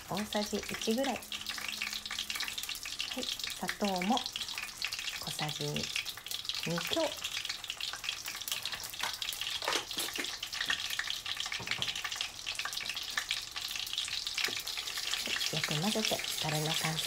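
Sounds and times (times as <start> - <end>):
spring rolls sizzling in oil: 0.0 - 17.0.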